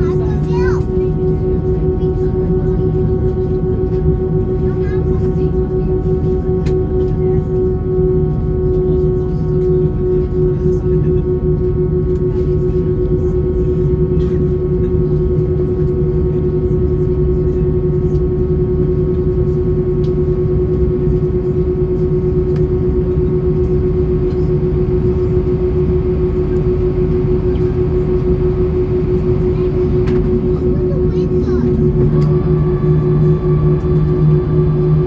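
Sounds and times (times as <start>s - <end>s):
aircraft engines droning in cabin: 0.0s - 35.0s.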